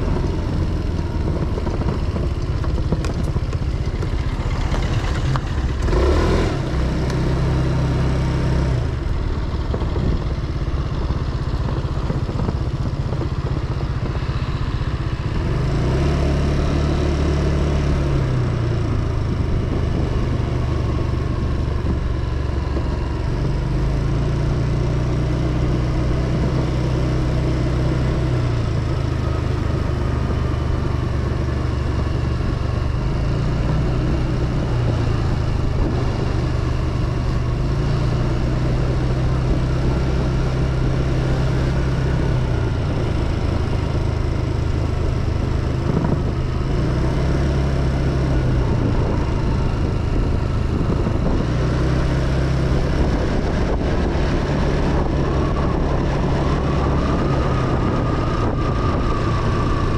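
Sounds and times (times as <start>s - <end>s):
motorbike engine running: 0.0s - 59.9s.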